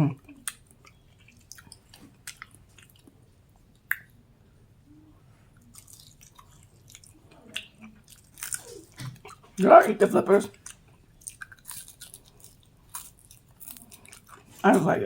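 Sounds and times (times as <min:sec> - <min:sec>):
chewing crunchy food: 0:00.2 - 0:04.2, 0:05.5 - 0:09.6, 0:10.5 - 0:14.9.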